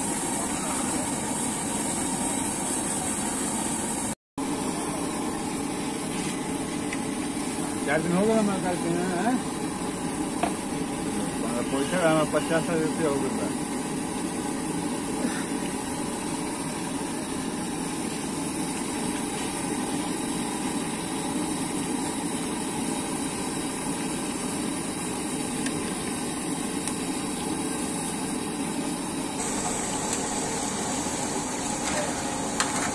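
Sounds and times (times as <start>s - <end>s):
fritters sizzling in hot oil: 0.0s - 32.9s.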